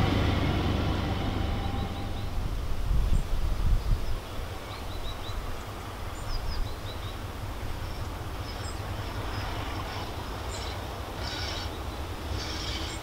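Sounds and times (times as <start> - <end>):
distant diesel locomotive rumble: 0.0 - 13.0.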